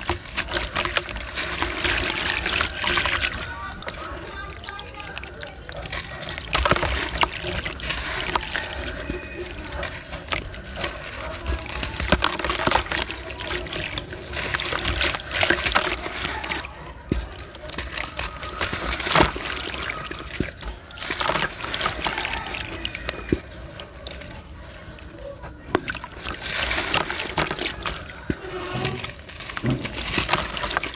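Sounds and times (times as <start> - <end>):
sand trickling: 0.0 - 30.9
stones crumbling and crunching: 0.0 - 30.9.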